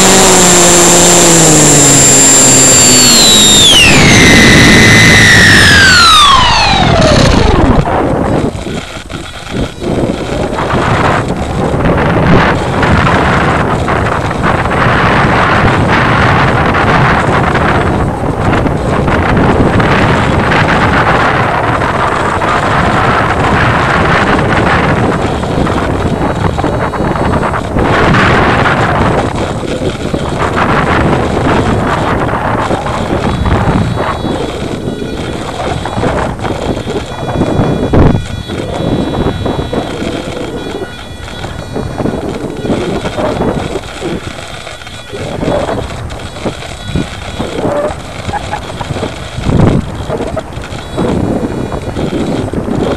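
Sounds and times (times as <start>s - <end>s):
electric motor and propeller: 0.0s - 52.9s
wind buffeting microphone: 0.0s - 52.9s.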